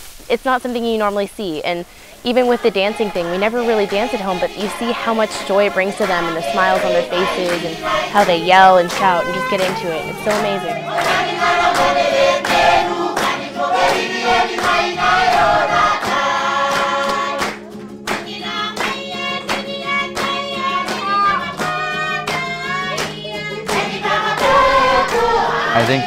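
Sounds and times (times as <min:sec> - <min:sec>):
group singing together: 0:02.2 - 0:26.0
rhythmic hand clapping: 0:02.2 - 0:26.0.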